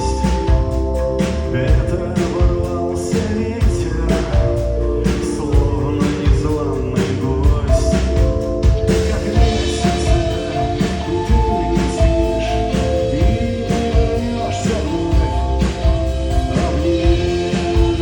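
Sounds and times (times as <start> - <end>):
live rock band music: 0.0 - 18.0
steady drum beat: 0.0 - 18.0.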